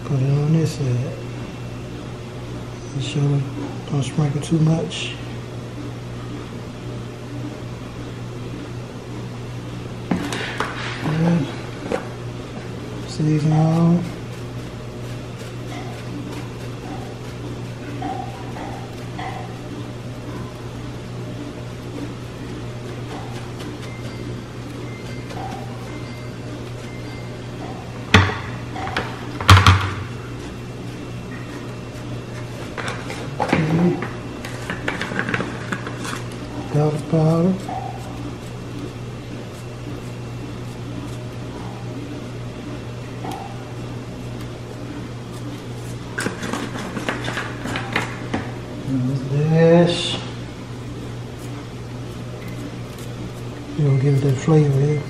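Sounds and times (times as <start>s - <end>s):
appliance electrical hum: 0.0s - 55.0s.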